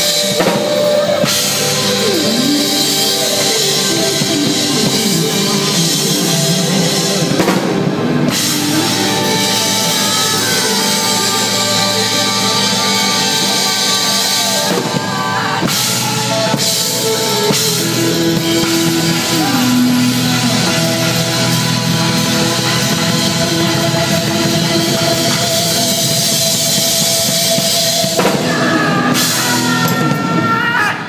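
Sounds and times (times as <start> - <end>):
drum kit with cymbals: 0.0 - 31.0
live band music: 0.0 - 31.0.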